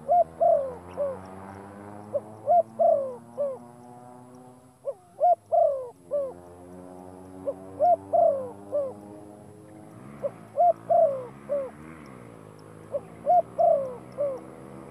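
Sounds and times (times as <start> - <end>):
bird cooing: 0.0 - 14.9.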